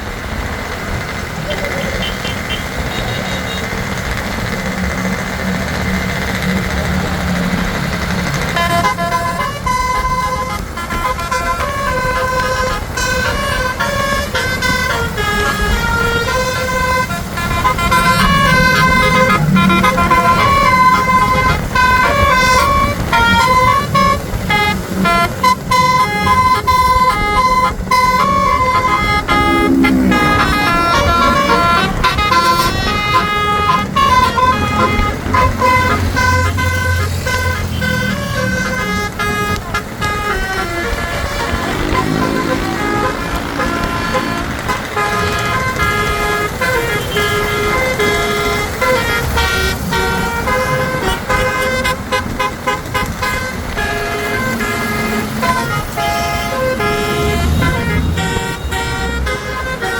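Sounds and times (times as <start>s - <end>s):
low engine rumble: 0.0s - 59.9s
road and engine noise: 0.0s - 59.9s
musical air horn melody: 0.2s - 59.9s.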